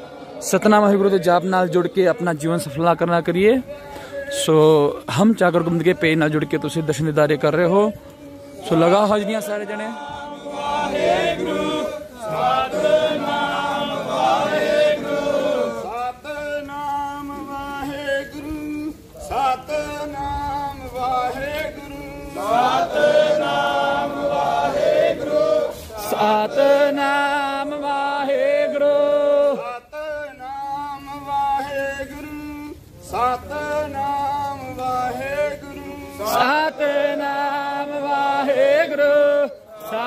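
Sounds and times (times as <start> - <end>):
men chanting a hymn: 0.0 - 40.0.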